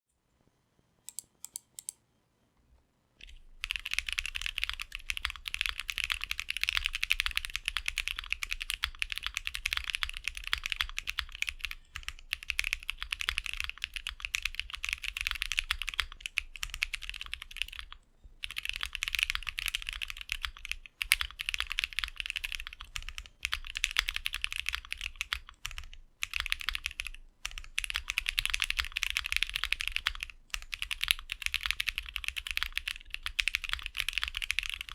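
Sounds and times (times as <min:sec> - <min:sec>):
mechanical keyboard typing: 0:03.2 - 0:34.9.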